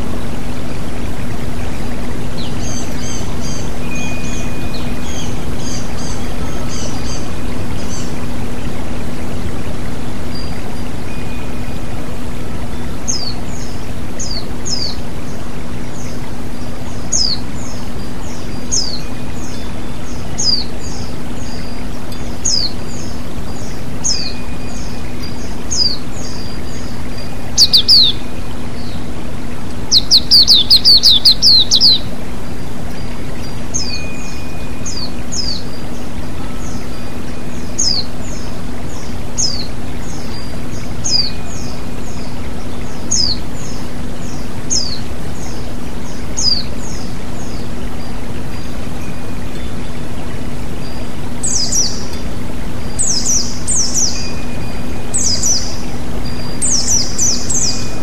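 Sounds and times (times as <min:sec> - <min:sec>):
birds singing: 0:00.0 - 0:58.0
stream rushing over rocks: 0:00.0 - 0:58.0.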